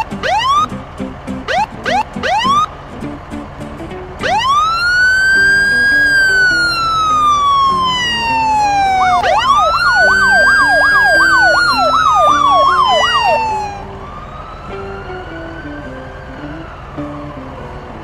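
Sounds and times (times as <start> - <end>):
siren wailing: 0.0 - 0.7, 1.5 - 2.7, 4.2 - 18.0
siren yelping: 0.0 - 0.7, 1.5 - 2.7, 4.2 - 17.9.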